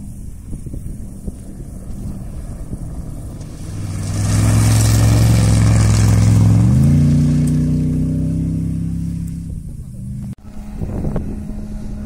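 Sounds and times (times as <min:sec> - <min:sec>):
wind: 0:00.0 - 0:12.0
rally car engine passing at speed: 0:01.0 - 0:12.0.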